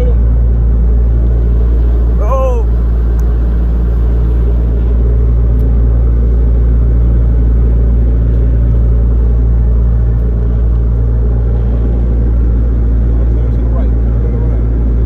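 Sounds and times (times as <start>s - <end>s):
boat motor rumbling: 0.0s - 15.0s.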